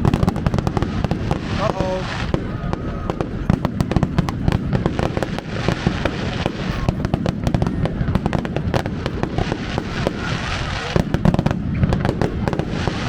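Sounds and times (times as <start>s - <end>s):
fireworks crackling pops: 0.0s - 13.0s
low rumble of firework bursts: 0.0s - 13.0s.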